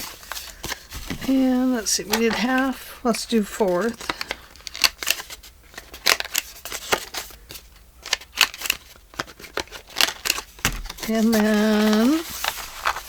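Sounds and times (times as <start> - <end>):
paper rustling: 0.0 - 13.0.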